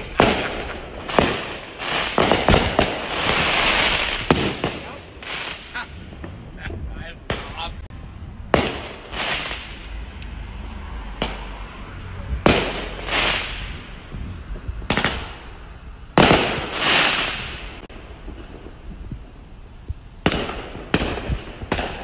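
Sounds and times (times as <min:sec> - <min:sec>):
fireworks bangs: 0:00.0 - 0:10.1, 0:11.0 - 0:22.0
firework crackling hiss: 0:00.0 - 0:22.0.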